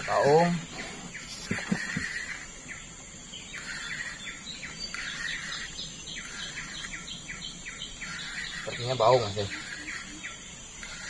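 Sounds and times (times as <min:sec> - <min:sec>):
birds chirping: 0:00.0 - 0:11.0
thin high bird calls: 0:00.0 - 0:11.0.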